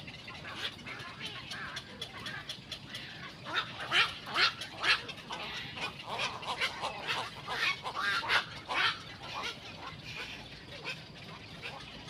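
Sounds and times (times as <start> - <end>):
herons calling: 0.0 - 12.0.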